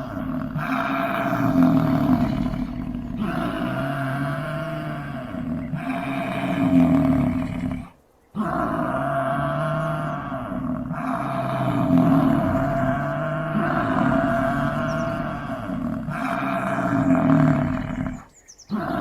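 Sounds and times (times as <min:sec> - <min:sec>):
bison bellowing: 0:00.0 - 0:19.0.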